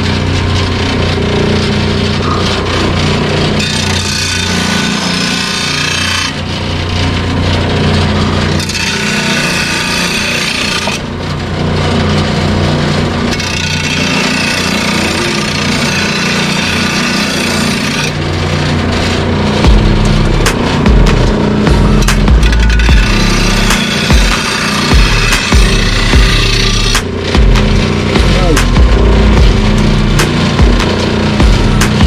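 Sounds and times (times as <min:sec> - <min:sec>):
grinding wheel grinding blade: 0:00.0 - 0:32.0
machine motor hum: 0:00.0 - 0:32.0.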